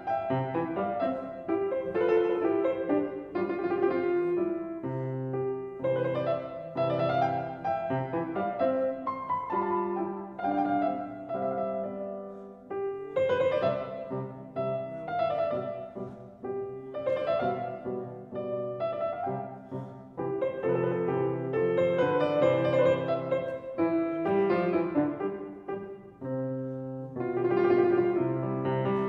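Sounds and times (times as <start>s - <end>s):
slow piano piece: 0.0s - 29.0s.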